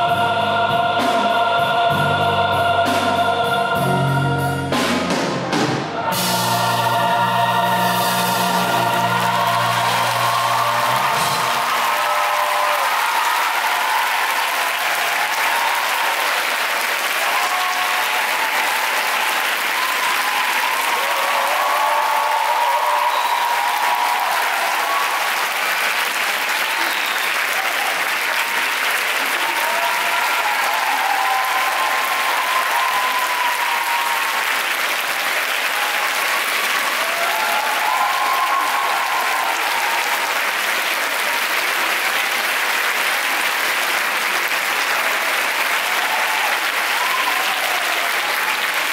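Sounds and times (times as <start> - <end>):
people cheering: 5.1 - 48.9
audience applauding: 6.1 - 48.9.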